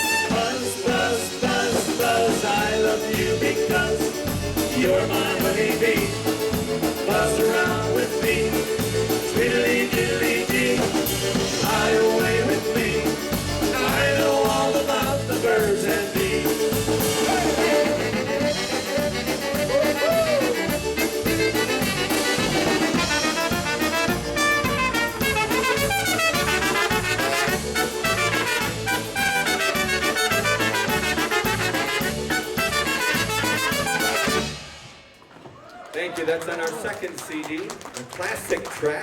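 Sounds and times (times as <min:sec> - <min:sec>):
brass band playing: 0:00.0 - 0:35.2.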